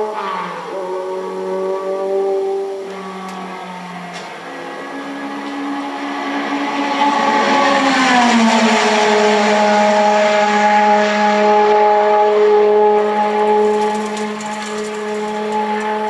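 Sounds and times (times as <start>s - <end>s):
race car engine passing by: 0.0s - 16.0s.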